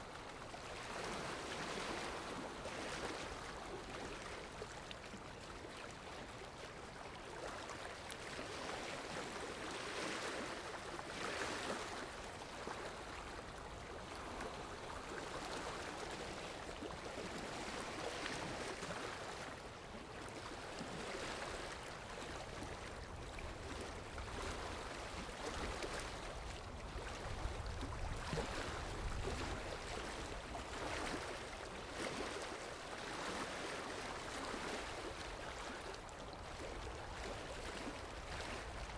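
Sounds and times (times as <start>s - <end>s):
floodwater rushing and churning: 6.4s - 38.9s.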